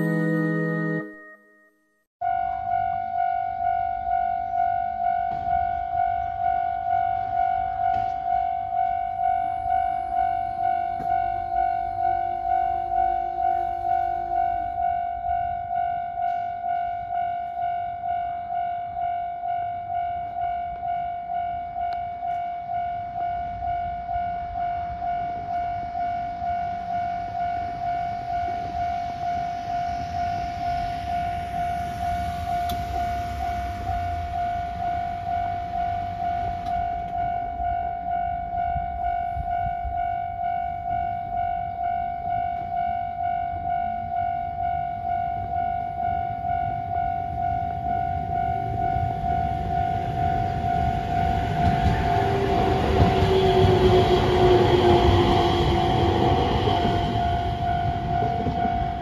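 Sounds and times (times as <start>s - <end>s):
level crossing warning bell: 0.0s - 59.0s
train running: 2.3s - 59.0s.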